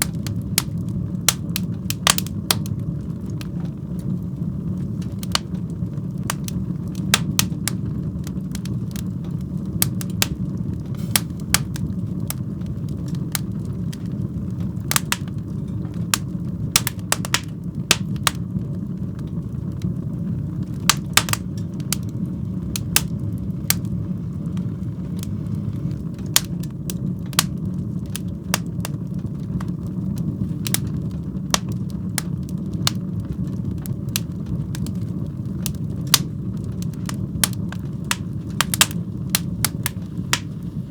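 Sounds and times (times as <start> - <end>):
fire crackling and popping: 0.0 - 40.9
low roar of flames: 0.0 - 40.9.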